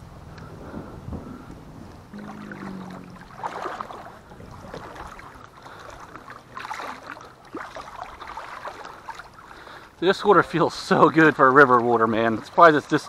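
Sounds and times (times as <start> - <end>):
water lapping around kayak: 0.4 - 13.0.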